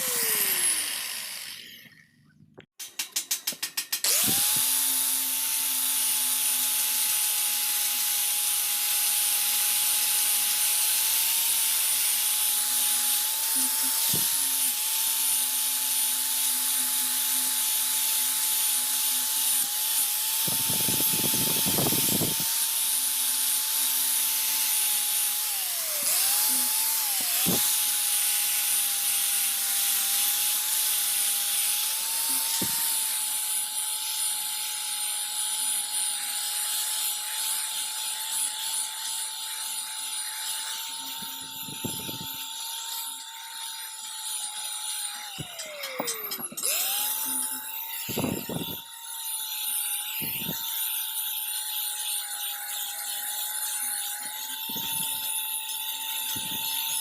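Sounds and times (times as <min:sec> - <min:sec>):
power tool whining: 0:00.0 - 0:57.0.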